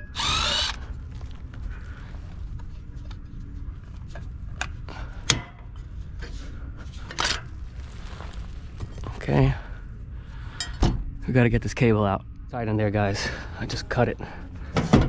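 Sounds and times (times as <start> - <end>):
steady low rumble: 0.2 - 15.0.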